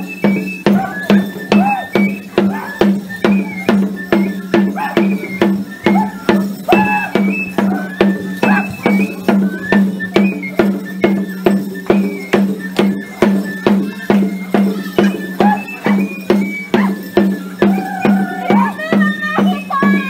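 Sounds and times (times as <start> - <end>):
shaker percussion: 0.0 - 20.0.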